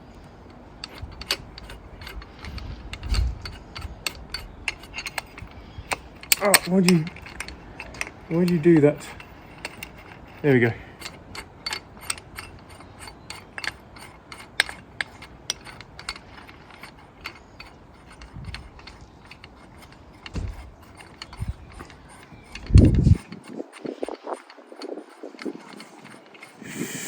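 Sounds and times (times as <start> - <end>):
ratchet wrench clicking: 0.4 - 27.0.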